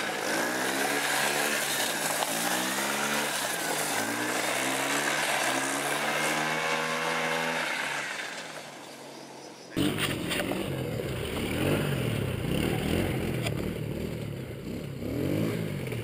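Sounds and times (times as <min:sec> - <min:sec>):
small engine revving: 0:00.0 - 0:08.9, 0:09.7 - 0:16.0.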